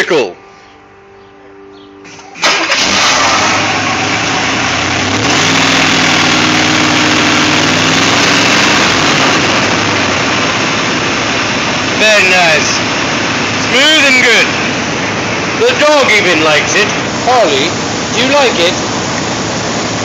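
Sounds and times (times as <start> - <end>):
car engine starting and idling: 2.0 - 20.0.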